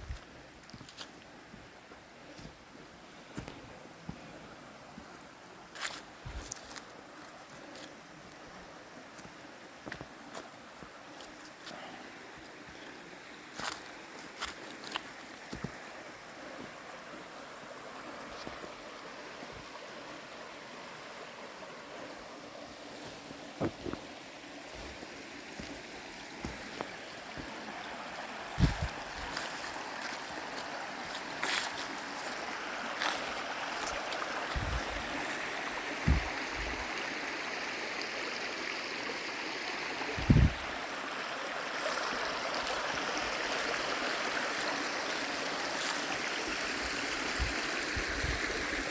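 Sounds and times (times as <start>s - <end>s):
creek water running: 0.0s - 48.9s.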